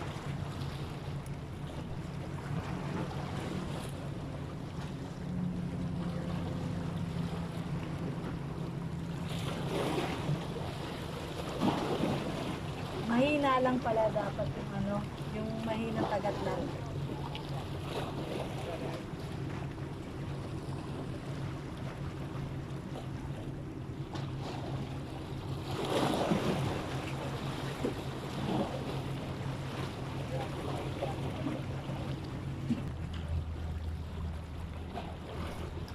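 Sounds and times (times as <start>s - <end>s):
low engine hum: 0.0s - 35.9s
water noise: 0.0s - 35.9s
wind: 0.0s - 35.9s.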